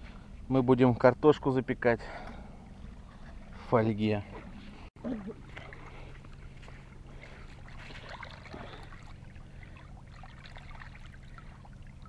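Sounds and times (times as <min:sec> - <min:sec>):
low hum: 0:00.0 - 0:12.0
water lapping and trickling: 0:02.0 - 0:12.0.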